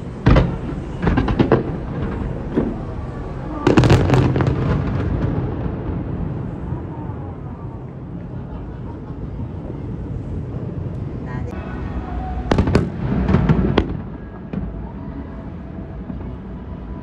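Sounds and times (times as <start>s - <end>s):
fireworks bangs and crackles: 0.0s - 11.2s, 12.2s - 17.0s.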